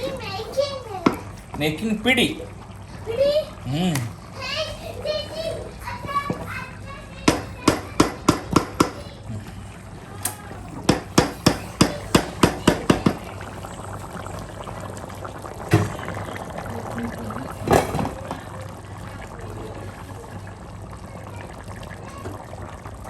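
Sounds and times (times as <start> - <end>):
pot of liquid boiling: 0.0 - 23.0.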